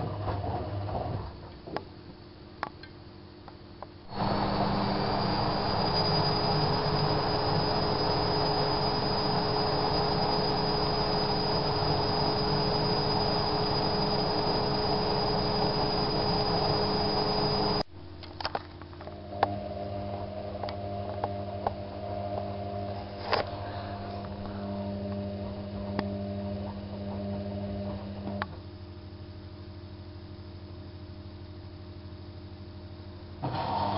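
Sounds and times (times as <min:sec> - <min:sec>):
washing machine droning with whine: 0:00.0 - 0:33.9
low steady hum: 0:00.2 - 0:33.4.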